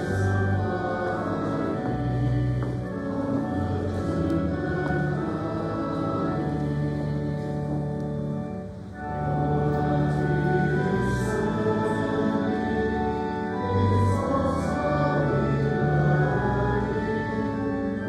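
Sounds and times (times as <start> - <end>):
hymn singing: 0.0 - 18.0.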